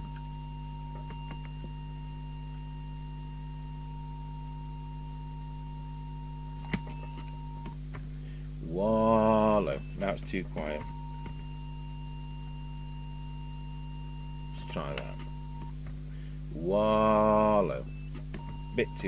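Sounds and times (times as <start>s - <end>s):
pure test tone: 0.0s - 7.8s, 8.6s - 15.8s, 16.5s - 19.0s
low mains hum: 0.0s - 19.0s.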